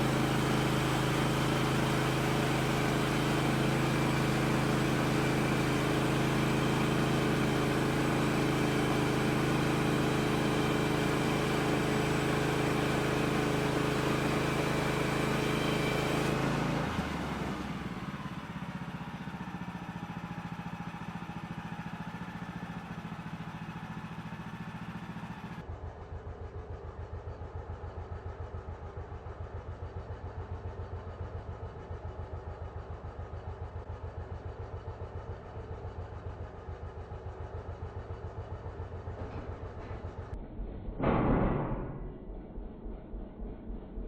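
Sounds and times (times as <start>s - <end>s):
sawmill engine running: 0.0s - 44.0s.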